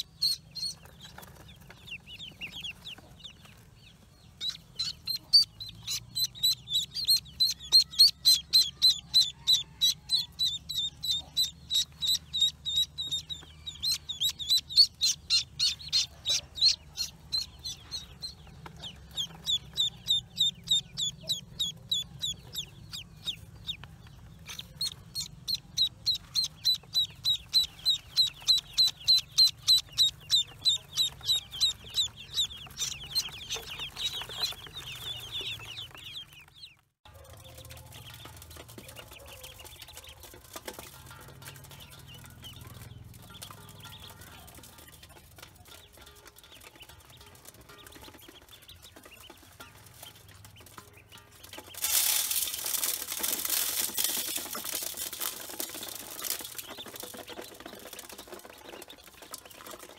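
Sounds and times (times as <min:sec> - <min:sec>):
ducklings peeping: 0:00.0 - 0:59.9.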